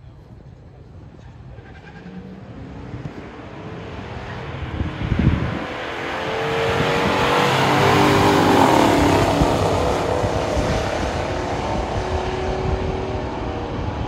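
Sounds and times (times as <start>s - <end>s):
car engines at full throttle: 0.6s - 14.0s.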